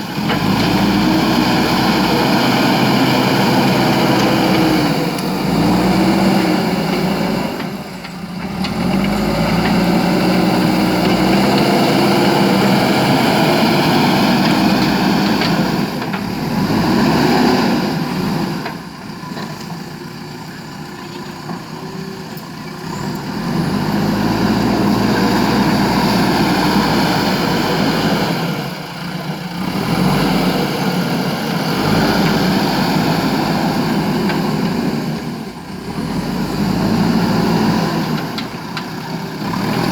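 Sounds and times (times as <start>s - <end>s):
diesel engine revving: 0.0s - 20.0s, 20.7s - 39.9s.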